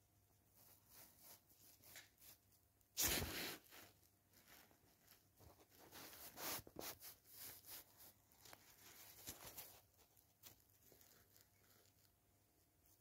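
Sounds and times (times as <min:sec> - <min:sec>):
faint handling rustling: 0:00.4 - 0:13.0.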